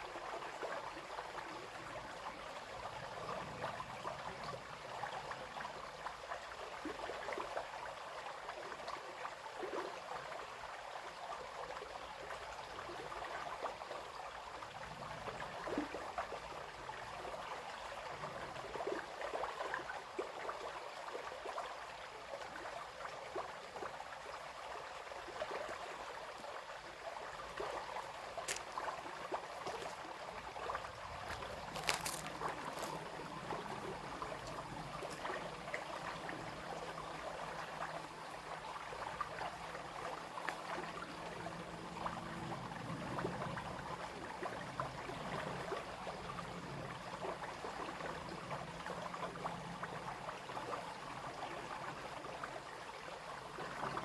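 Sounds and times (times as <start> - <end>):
brook babbling: 0.0 - 54.0.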